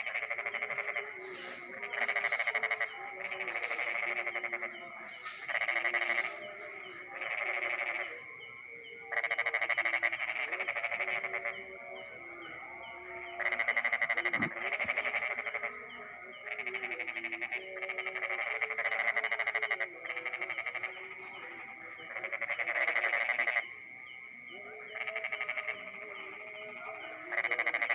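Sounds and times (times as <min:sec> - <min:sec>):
high-pitched insect drone: 0:00.0 - 0:23.9
frogs calling in pulses: 0:00.0 - 0:27.9.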